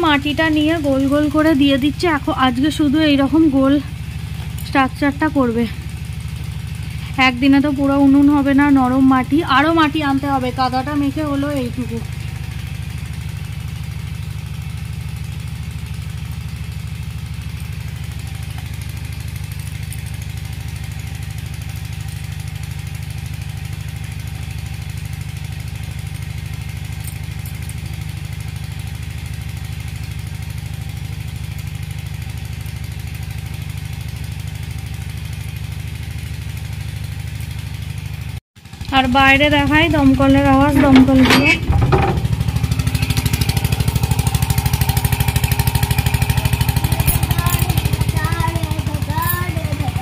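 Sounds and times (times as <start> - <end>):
engine droning steadily: 0.0 - 50.0.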